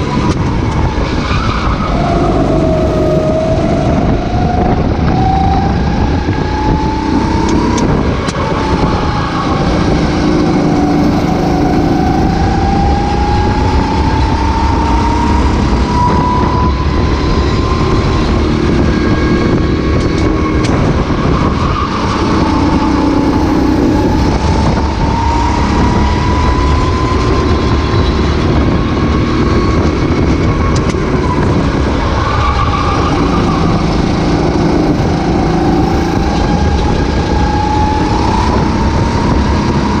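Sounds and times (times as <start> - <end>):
kart engine revving: 0.0 - 40.0
wind and track noise: 0.0 - 40.0.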